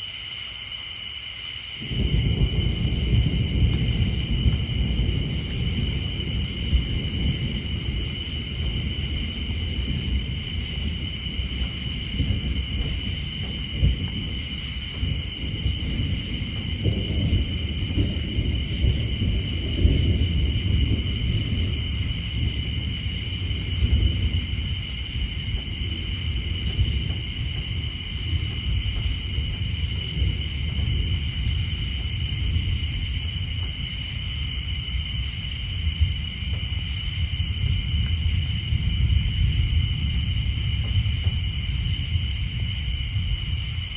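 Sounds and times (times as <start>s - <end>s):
tree frogs and insects trilling: 0.0s - 43.9s
distant thunder rumbling: 1.8s - 43.9s.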